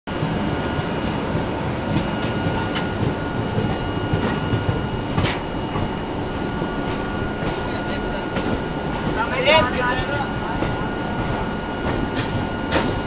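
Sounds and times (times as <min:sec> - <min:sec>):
train running rumble: 0:00.1 - 0:13.0.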